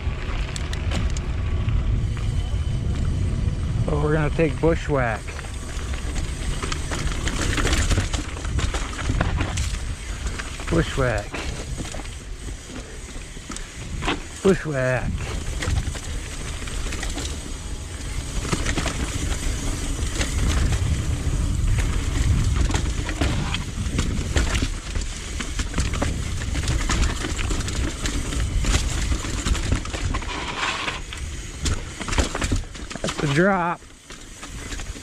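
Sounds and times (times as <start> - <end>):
wind buffeting microphone: 0.0 - 30.4
bike clicks and rattles: 0.0 - 35.0
bike tyre noise: 0.0 - 35.0.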